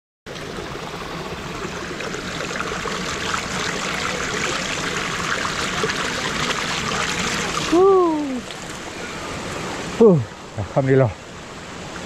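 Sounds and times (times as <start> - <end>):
water splashing: 0.3 - 10.2
water rushing over rock: 0.3 - 12.0.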